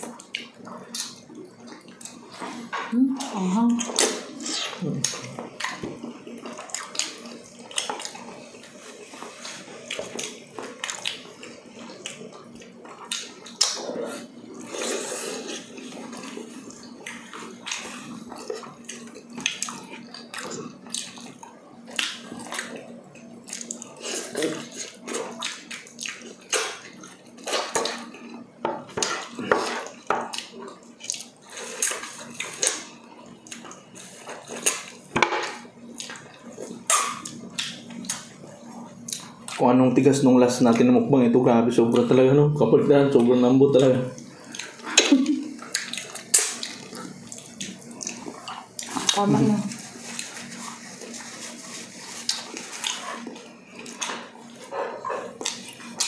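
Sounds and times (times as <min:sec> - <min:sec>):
wet chewing and lip-smacking: 0:00.0 - 0:02.6, 0:03.2 - 0:28.4, 0:29.0 - 0:35.1, 0:35.8 - 0:39.6, 0:44.2 - 0:56.0.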